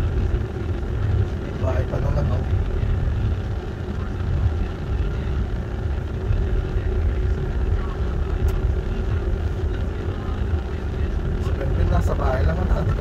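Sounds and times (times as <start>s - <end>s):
engine running low rumble: 0.0s - 13.0s.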